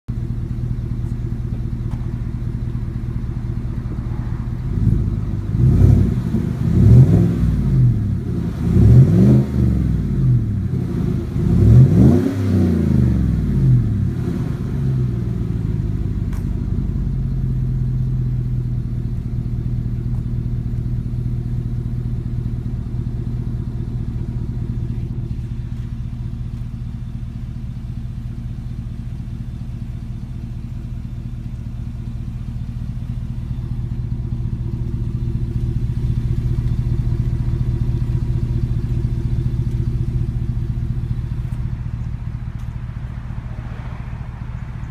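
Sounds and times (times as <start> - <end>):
engine idling and revving: 0.0 - 44.9.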